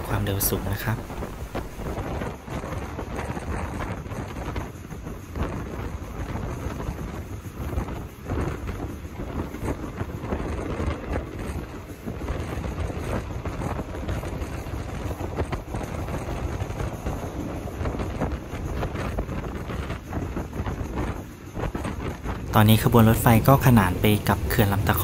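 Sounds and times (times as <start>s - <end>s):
train running rumble: 0.0s - 25.0s
wheels clattering on rails: 0.0s - 25.0s
wind buffeting microphone: 0.0s - 25.0s.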